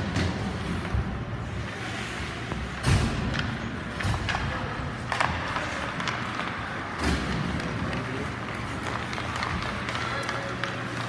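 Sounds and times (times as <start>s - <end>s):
arena background noise: 0.0s - 11.0s.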